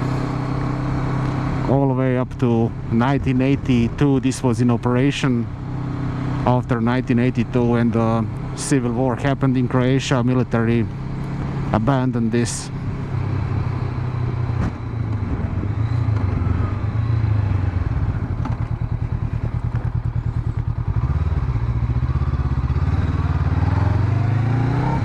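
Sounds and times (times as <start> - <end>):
motorcycle engine low revs: 0.0 - 25.0.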